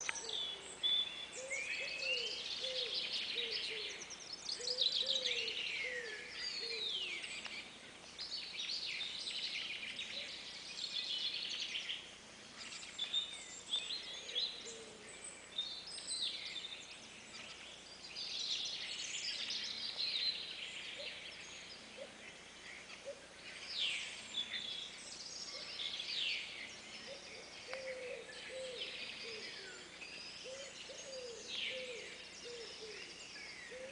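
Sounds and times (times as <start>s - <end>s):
chorus of high bird chirps: 0.0s - 33.9s.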